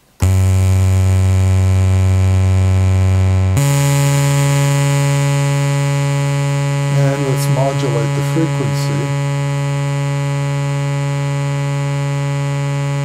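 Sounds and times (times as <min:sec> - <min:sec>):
buzzy synthesizer sawtooth note: 0:00.0 - 0:13.0.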